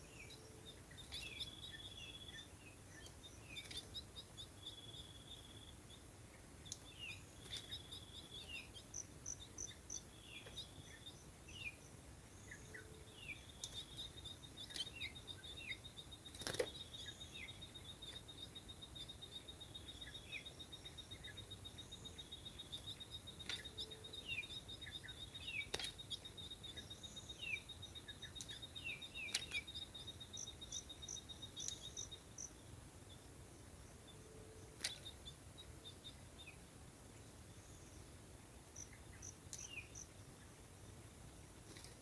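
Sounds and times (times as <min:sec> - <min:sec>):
bird chirps: 0:00.0 - 0:40.8.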